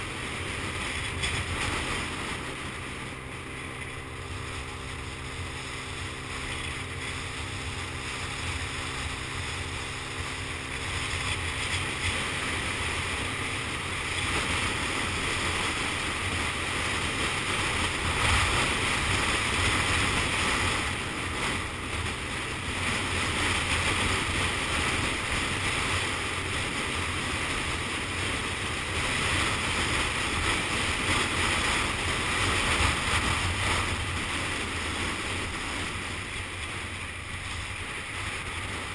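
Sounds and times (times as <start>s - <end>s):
motorbike engine running: 0.0s - 38.9s
wind rushing over microphone: 0.0s - 38.9s.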